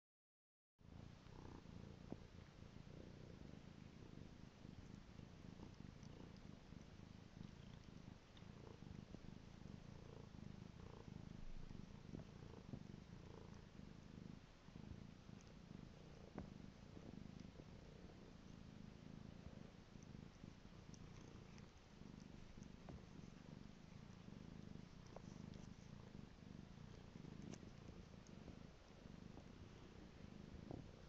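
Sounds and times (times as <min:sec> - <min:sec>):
cat purring: 0:00.8 - 0:31.0.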